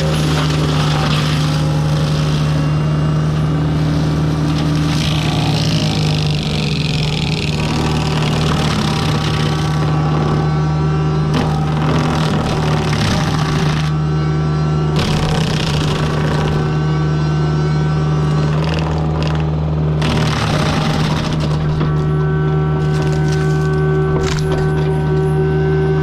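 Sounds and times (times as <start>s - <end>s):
diesel engine running: 0.0s - 26.0s
hydraulics whining: 0.0s - 26.0s.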